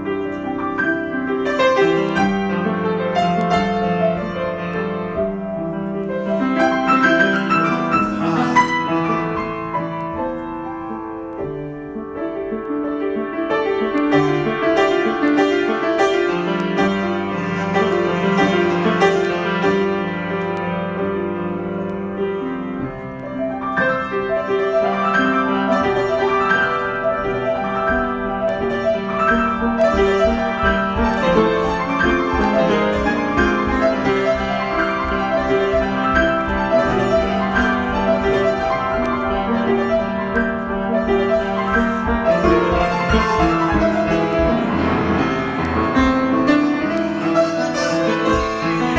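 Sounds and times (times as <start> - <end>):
repeated low piano bass notes: 0.0 - 12.7, 22.0 - 48.9
piano chords ringing: 0.0 - 48.9.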